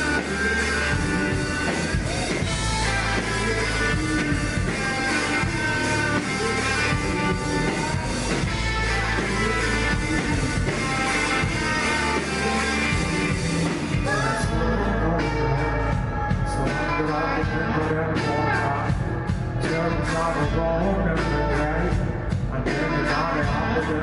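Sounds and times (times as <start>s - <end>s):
electric guitar: 0.0s - 24.0s
live rock band playing: 0.0s - 24.0s.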